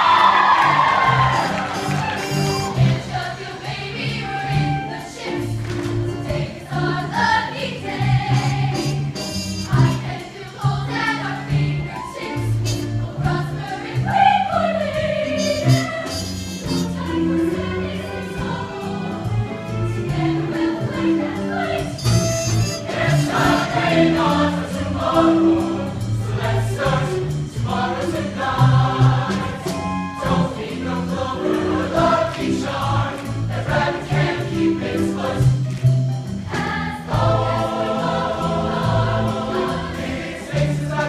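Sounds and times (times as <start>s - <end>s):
choir singing: 0.0s - 35.8s, 36.5s - 41.0s
drums: 0.0s - 41.0s.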